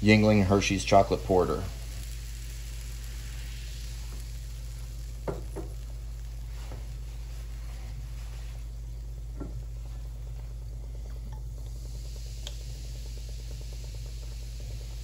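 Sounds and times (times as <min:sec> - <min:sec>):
beer pouring into pot: 0:00.0 - 0:15.0
faint bubbling and ticks: 0:00.0 - 0:15.0
foaming beer fizzing hiss: 0:00.0 - 0:15.0
steady low hum: 0:00.0 - 0:15.0.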